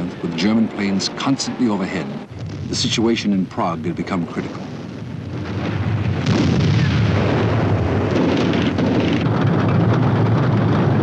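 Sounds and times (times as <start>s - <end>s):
heavy battle rumble: 0.0s - 11.0s.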